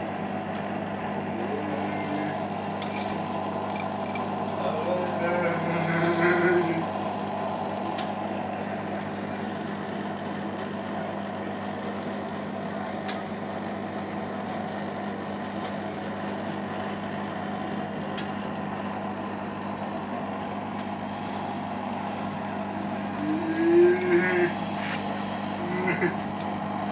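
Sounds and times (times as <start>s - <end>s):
washing machine spinning hum: 0.0s - 26.9s.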